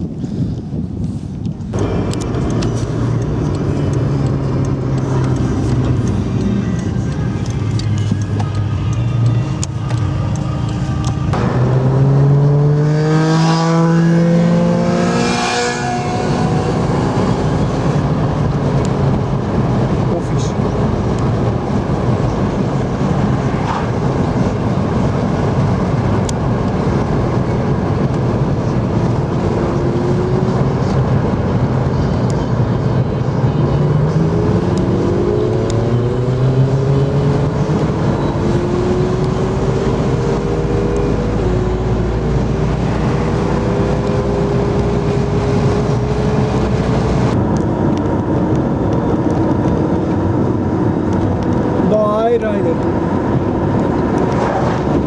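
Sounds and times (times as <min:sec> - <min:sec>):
motor vehicle engine: 0:00.0 - 0:55.0
steady rush: 0:01.5 - 0:55.0.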